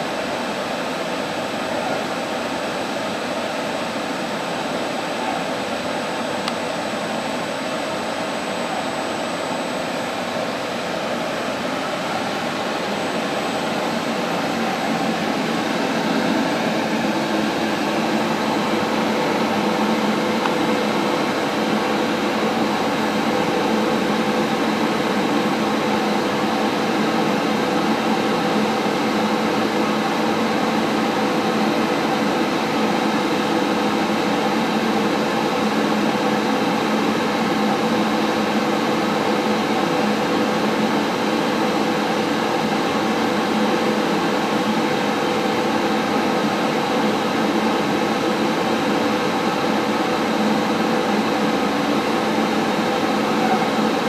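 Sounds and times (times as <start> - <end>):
faint high whine: 0.0 - 54.0
machine humming: 3.8 - 54.0.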